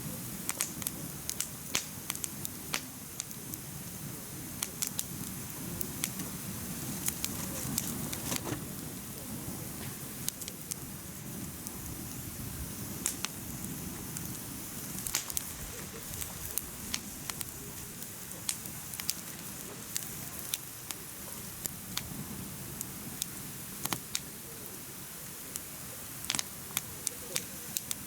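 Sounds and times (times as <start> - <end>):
low rumble of flames: 0.0 - 28.0
burning wood crackling and popping: 0.1 - 28.0.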